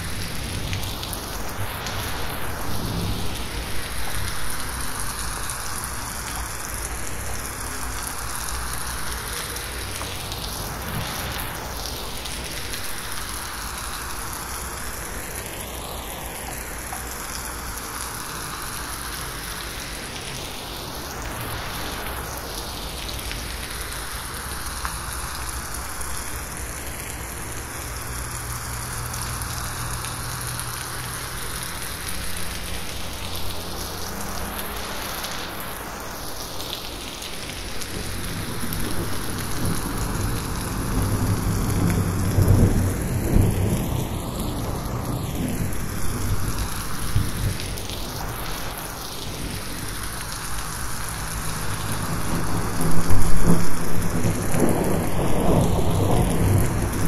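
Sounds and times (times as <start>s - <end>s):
rain pattering on leaves: 0.0s - 57.0s.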